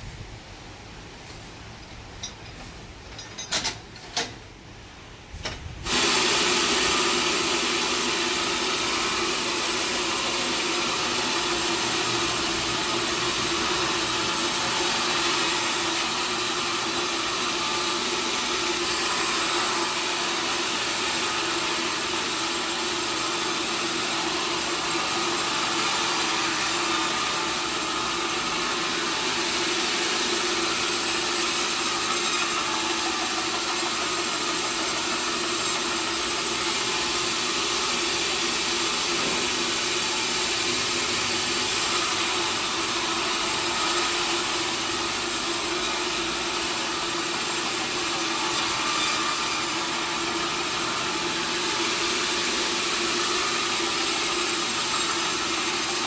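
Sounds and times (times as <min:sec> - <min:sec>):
sawmill saw running: 0:05.8 - 0:56.0.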